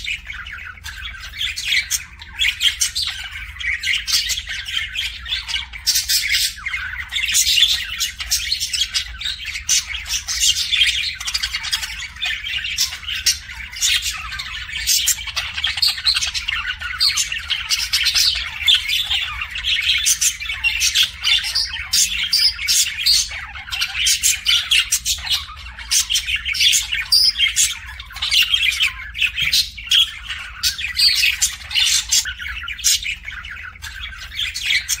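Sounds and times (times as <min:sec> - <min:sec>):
budgerigars chattering: 0:00.0 - 0:35.0.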